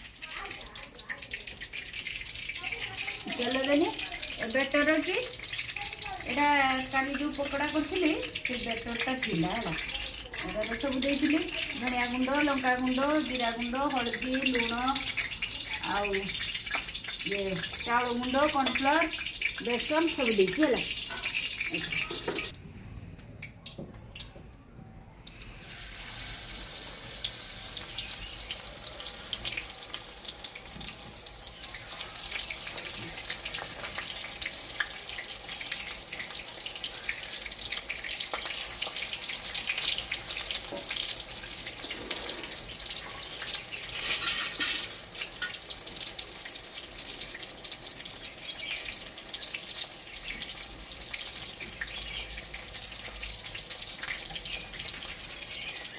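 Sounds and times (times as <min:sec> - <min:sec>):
oil sizzling and crackling: 0:00.0 - 0:24.3, 0:25.2 - 0:55.9.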